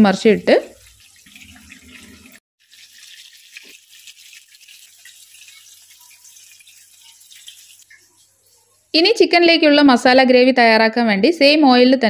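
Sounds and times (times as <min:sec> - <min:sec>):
chicken sizzling in frying oil: 0:00.0 - 0:09.9.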